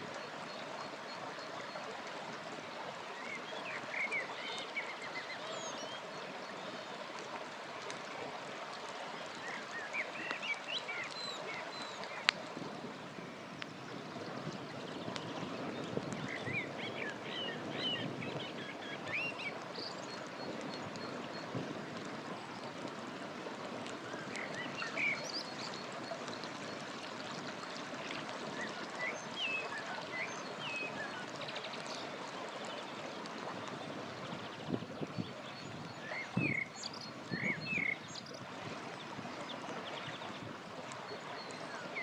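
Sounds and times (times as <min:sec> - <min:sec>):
river flowing: 0:00.0 - 0:42.0.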